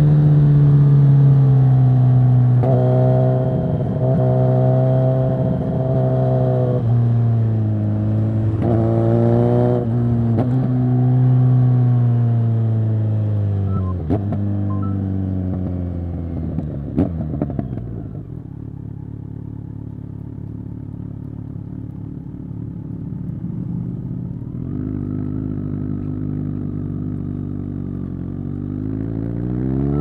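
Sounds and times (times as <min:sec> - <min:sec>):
motorcycle engine revving: 0:00.0 - 0:18.4, 0:22.2 - 0:30.0.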